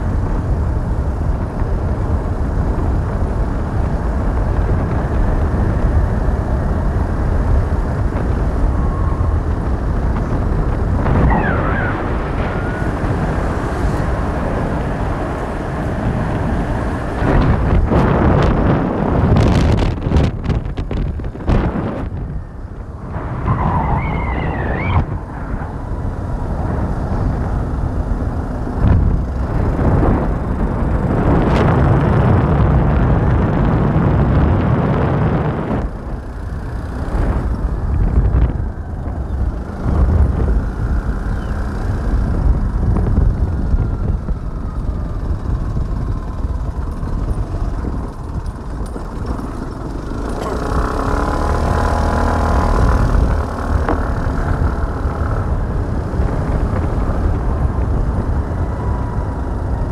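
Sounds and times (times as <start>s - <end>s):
vehicle road and engine noise: 0.0s - 59.9s
wind rumble on microphone: 0.0s - 59.9s.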